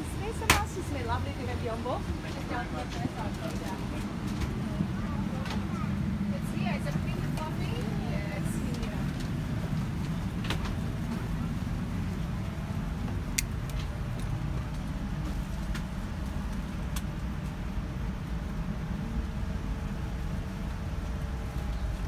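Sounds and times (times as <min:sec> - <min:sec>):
cabin air system hum: 0:00.0 - 0:22.0.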